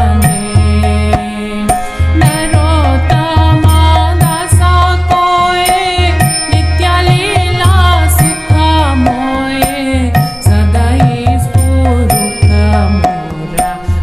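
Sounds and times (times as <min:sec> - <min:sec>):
person singing ornamented melody: 0:00.0 - 0:14.0.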